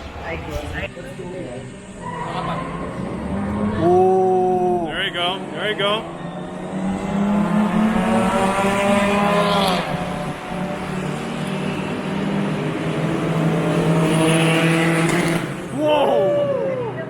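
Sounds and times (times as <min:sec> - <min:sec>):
race cars accelerating: 0:00.0 - 0:17.0.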